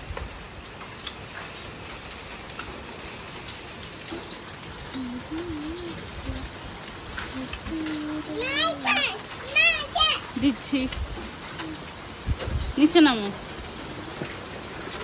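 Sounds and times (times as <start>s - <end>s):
hailstones ticking: 0.0s - 15.0s
rain hissing: 0.0s - 15.0s.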